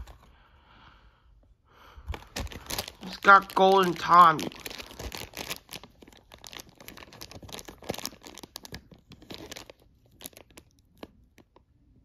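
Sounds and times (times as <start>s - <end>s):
plastic bag crinkling: 0.0s - 0.4s, 2.0s - 11.6s.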